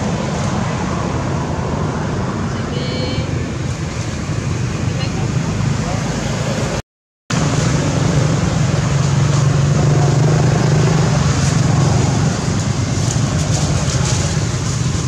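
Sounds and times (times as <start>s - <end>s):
engine running nearby: 0.0s - 15.0s.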